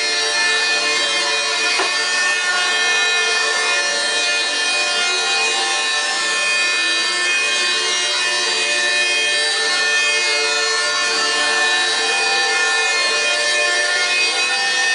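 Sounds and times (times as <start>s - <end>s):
electric sander on wood: 0.0s - 14.9s
music: 0.0s - 14.9s.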